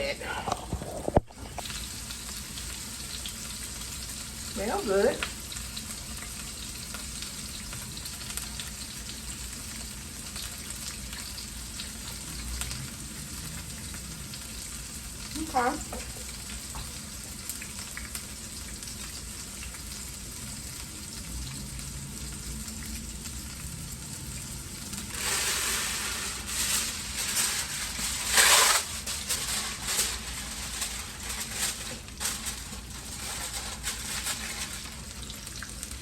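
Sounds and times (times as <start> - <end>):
burgers sizzling in a pan: 0.0 - 36.0.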